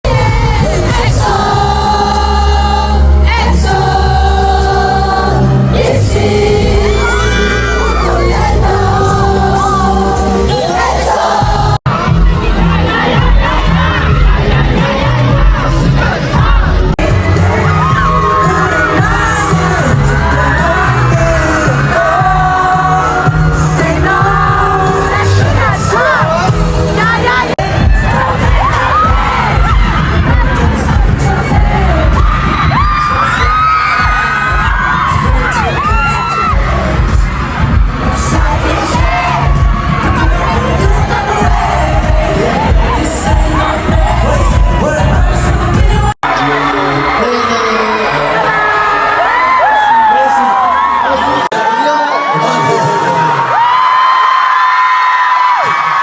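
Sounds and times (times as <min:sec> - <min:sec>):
heavy bass line: 0:00.0 - 0:46.4
group singing live: 0:00.0 - 0:47.2
pop song over sound system: 0:00.0 - 0:56.0.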